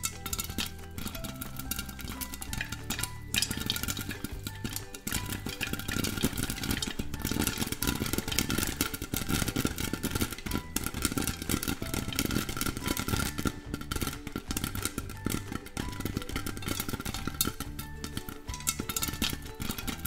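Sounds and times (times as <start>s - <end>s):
oil sizzling: 0.0s - 20.0s
popcorn popping: 0.0s - 20.0s.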